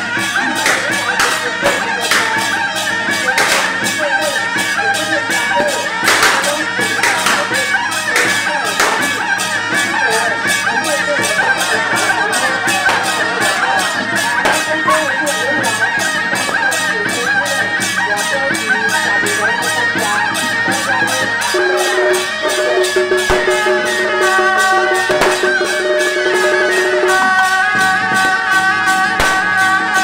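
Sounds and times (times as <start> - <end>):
fast percussion beat: 0.0 - 30.0
shrill reed horn melody: 0.0 - 30.0.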